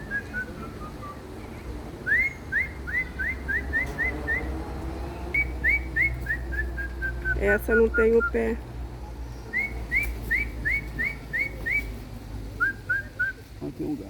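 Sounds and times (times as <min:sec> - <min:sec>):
bird calling with yelping notes: 0:00.0 - 0:04.6, 0:05.3 - 0:08.6, 0:09.2 - 0:12.0, 0:12.6 - 0:13.5.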